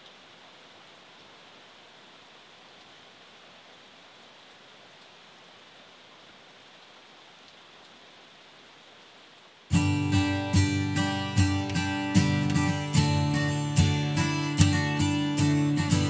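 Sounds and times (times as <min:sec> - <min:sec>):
light rain hissing: 0:00.0 - 0:16.0.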